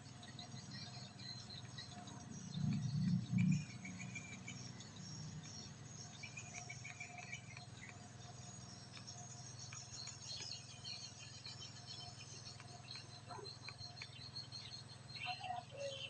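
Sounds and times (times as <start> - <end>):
insects chirping in trills: 0.0 - 16.0
low steady hum: 0.0 - 16.0.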